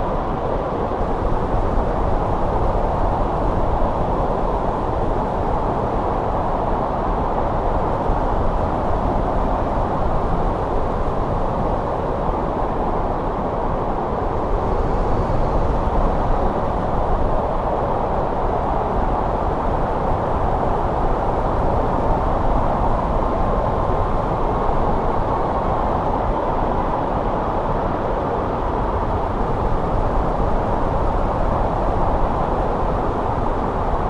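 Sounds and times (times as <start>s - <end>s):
snowstorm wind blowing: 0.0s - 34.0s.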